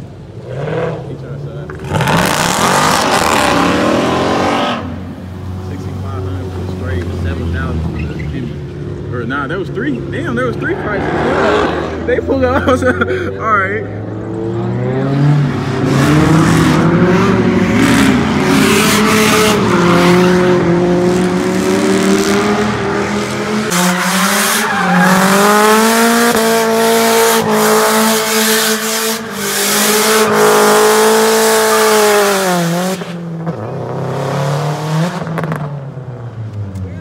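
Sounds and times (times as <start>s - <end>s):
car engine revving: 0.0s - 37.0s
tires squealing: 1.7s - 8.6s, 9.6s - 12.4s, 14.6s - 35.7s.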